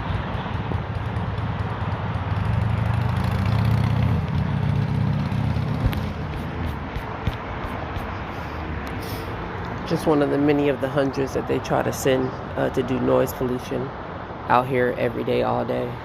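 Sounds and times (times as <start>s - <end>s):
vehicle engine passing: 0.0s - 13.2s.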